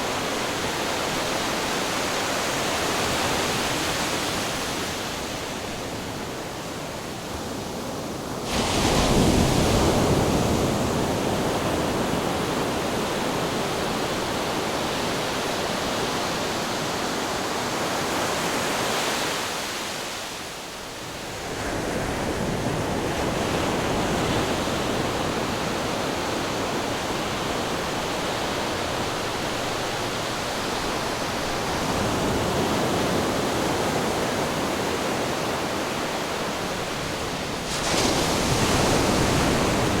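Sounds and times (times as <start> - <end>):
ocean surf: 0.0 - 40.0
wind: 0.0 - 40.0.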